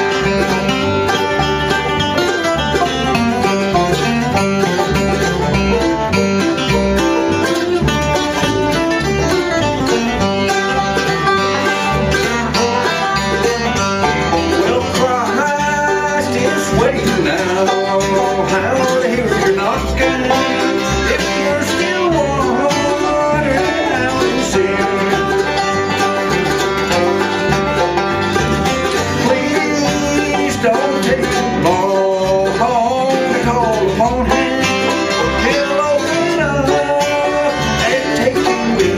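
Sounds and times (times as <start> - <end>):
banjo: 0.0 - 38.9
bluegrass band playing live: 0.0 - 38.9.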